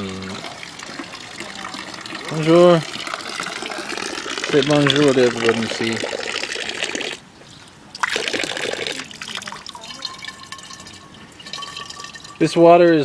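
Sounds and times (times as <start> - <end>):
fountain water splashing: 0.0 - 7.2, 7.9 - 12.7.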